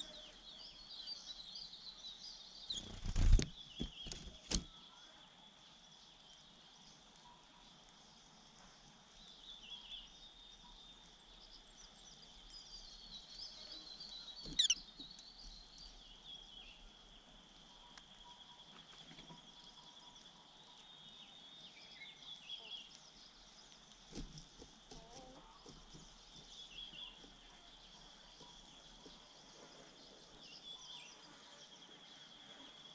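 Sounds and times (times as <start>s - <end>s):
birds chirping and twittering: 0.0s - 32.9s.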